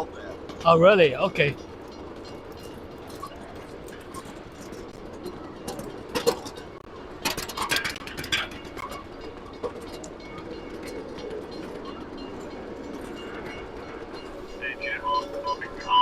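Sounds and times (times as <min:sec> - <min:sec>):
miniature train rumbling: 0:00.0 - 0:16.0
wheels clacking on rails: 0:00.0 - 0:16.0.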